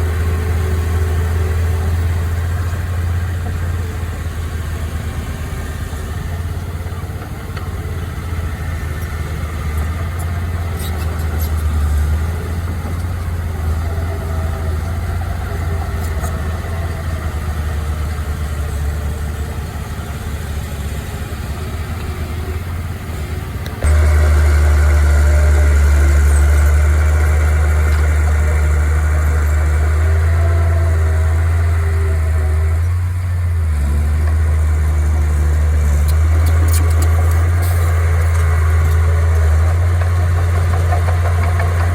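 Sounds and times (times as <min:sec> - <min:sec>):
heavy diesel engine rumbling: 0:00.0 - 0:41.9.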